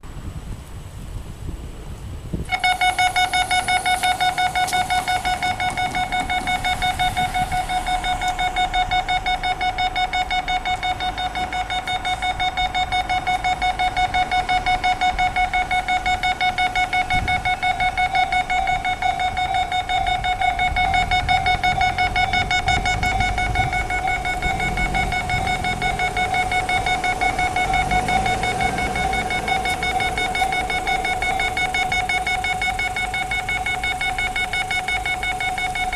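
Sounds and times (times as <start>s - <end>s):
railway warning alarm beeping: 2.5s - 35.9s.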